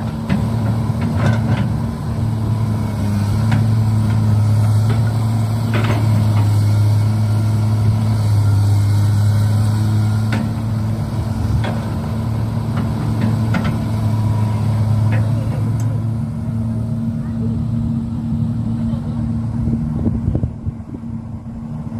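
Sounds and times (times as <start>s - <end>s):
model vehicles humming: 0.0s - 21.9s.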